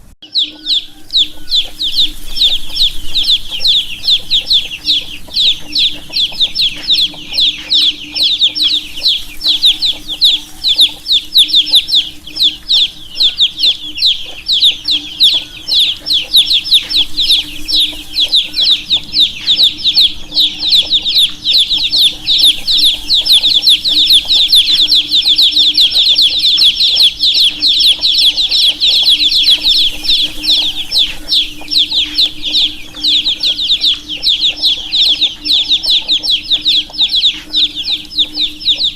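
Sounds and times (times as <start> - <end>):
baby chicks peeping: 0.0 - 38.9
faint low hum: 0.0 - 38.9.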